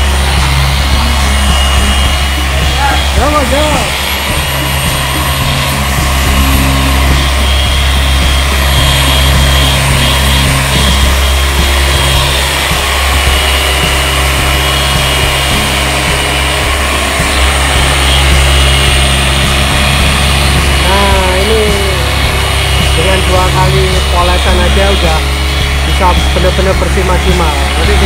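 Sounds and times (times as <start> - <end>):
electric polishing machine whine: 0.0 - 28.0.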